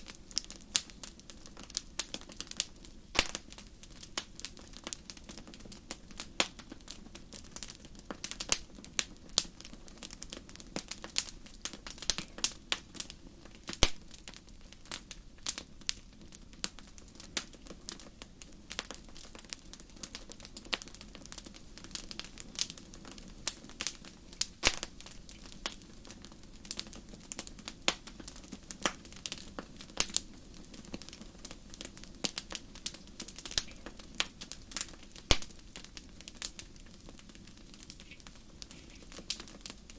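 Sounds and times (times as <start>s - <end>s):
campfire crackling and popping: 0.0s - 39.9s
hiss of burning: 0.0s - 39.9s.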